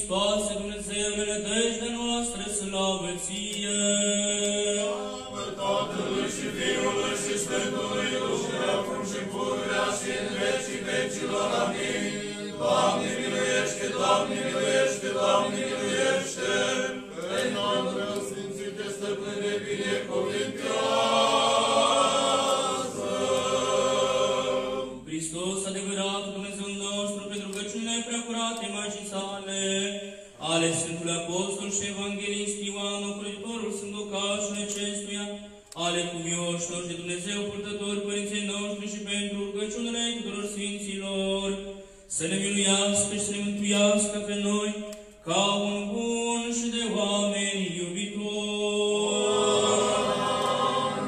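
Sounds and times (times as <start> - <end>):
group chanting a hymn: 0.0 - 51.0.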